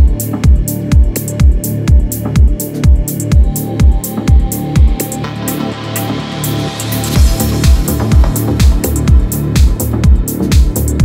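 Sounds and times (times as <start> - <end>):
pounding kick drum: 0.0 - 5.2, 7.0 - 11.0
crisp high percussion: 0.0 - 11.0
electronic dance music: 0.0 - 11.0.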